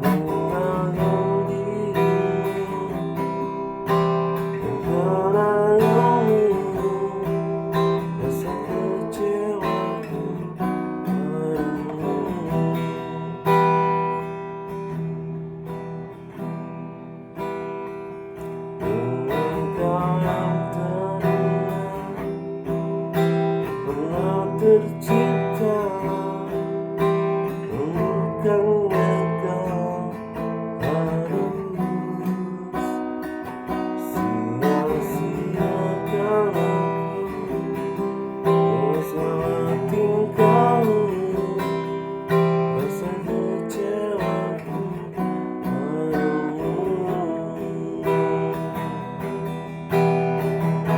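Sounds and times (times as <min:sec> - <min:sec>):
acoustic guitar strumming chords: 0:00.0 - 0:50.9.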